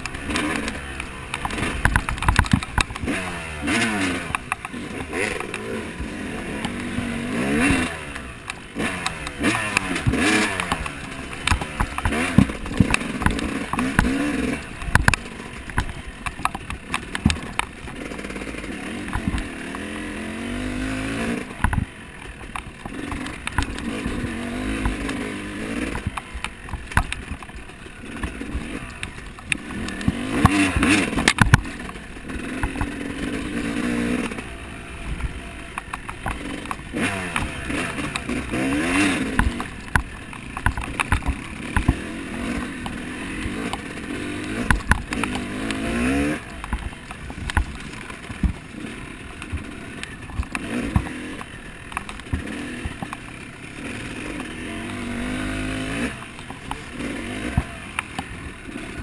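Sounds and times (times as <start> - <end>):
bike knocking over rough ground: 0.0 - 19.9, 21.5 - 33.0, 35.0 - 53.4
dirt bike engine revving: 0.0 - 59.0.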